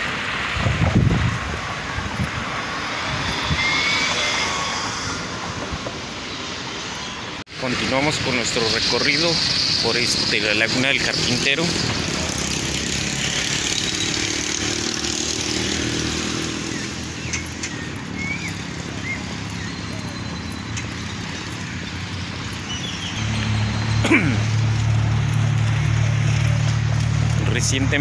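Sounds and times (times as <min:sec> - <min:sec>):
traffic hum: 0:00.0 - 0:28.0.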